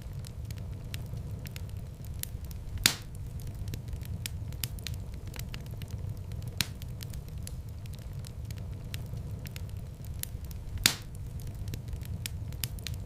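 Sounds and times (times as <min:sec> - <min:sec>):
fire pops: 0:00.0 - 0:13.0
wood fire crackling: 0:00.0 - 0:13.0.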